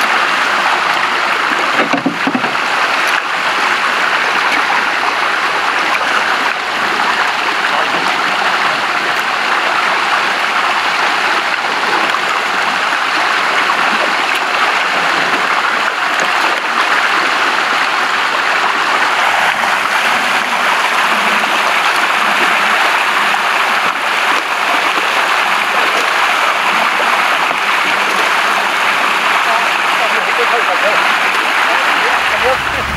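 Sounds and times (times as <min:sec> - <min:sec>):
churning water rushing: 0:00.0 - 0:32.9.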